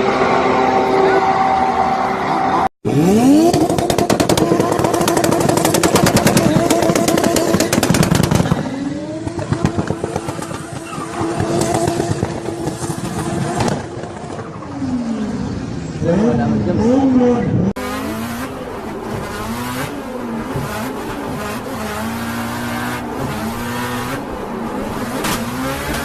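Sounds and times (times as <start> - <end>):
turbocharged car engine revving: 0.0 - 14.2, 14.8 - 26.0.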